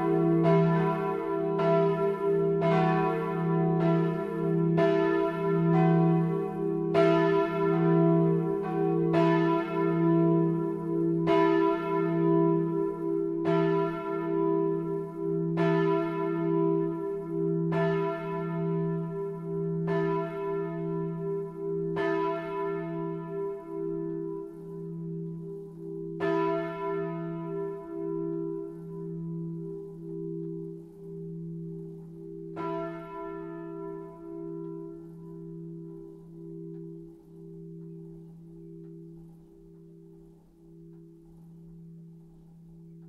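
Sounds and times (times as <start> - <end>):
church bells ringing: 0.0 - 43.0.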